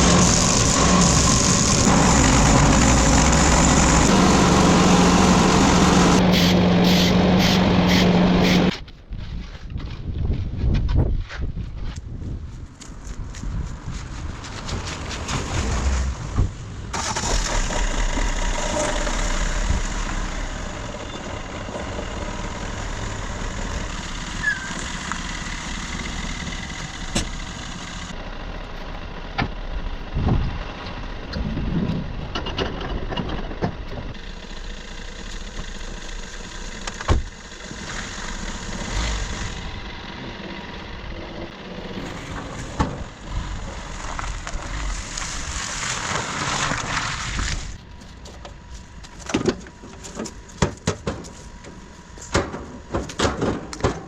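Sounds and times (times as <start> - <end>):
engine running: 0.0 - 8.9, 12.8 - 54.0.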